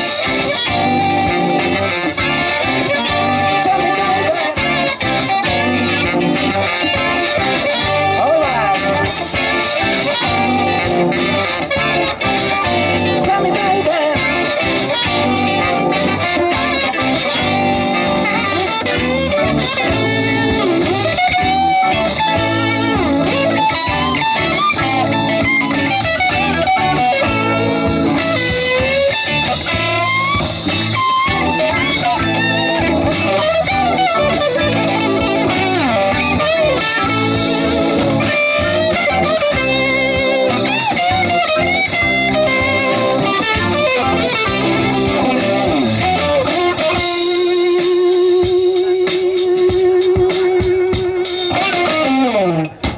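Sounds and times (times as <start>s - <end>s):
lead guitar bending notes: 0.0s - 52.9s
live electric blues band: 0.0s - 52.9s.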